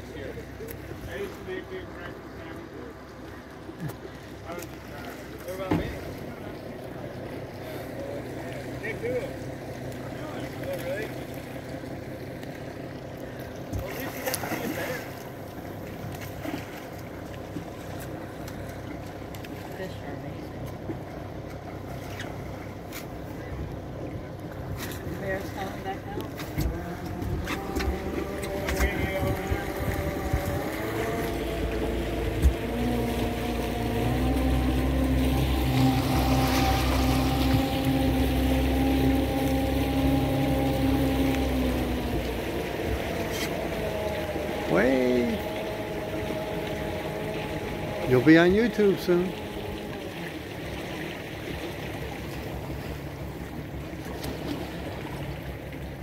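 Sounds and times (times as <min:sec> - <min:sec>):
motorboat engine running: 0:00.0 - 0:56.0
water and wind noise: 0:00.0 - 0:56.0.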